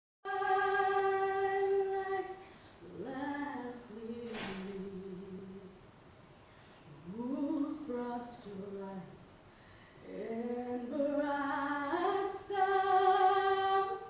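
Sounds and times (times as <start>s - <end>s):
woman singing unaccompanied: 0.2s - 5.8s, 6.9s - 14.0s.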